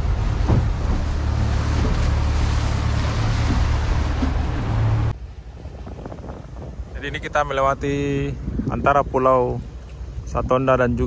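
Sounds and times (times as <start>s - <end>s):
wind rushing: 0.0s - 9.0s
boat engine drone: 0.0s - 11.0s
water along hull: 0.0s - 11.0s.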